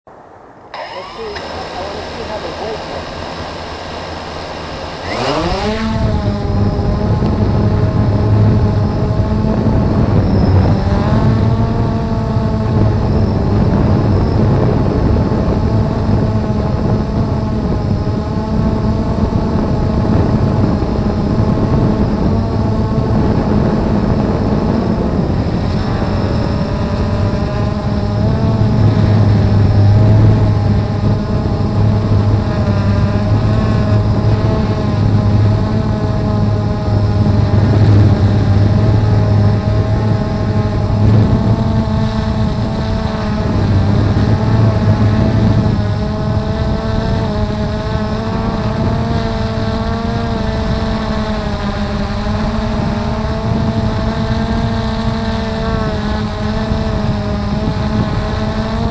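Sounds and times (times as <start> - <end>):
quadcopter motors whining: 0.6 - 58.9.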